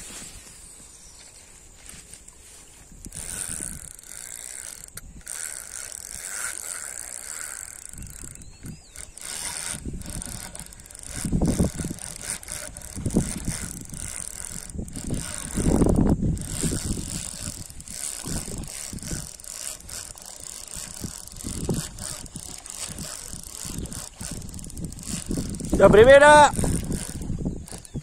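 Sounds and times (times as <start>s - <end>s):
fishing reel gears clicking: 2.0s - 28.0s.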